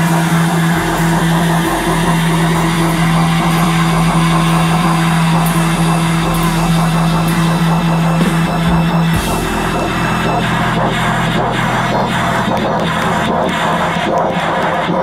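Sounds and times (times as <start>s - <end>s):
live rock band: 0.0s - 14.3s
low droning note: 0.0s - 15.0s.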